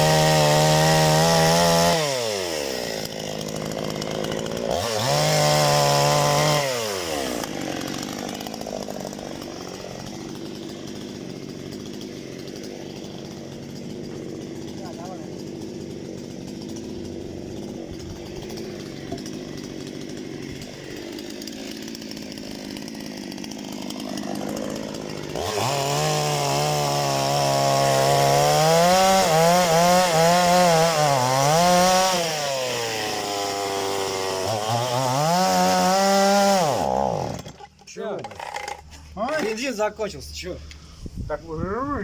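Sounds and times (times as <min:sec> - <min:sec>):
chainsaw cutting firewood: 0:00.0 - 0:41.3.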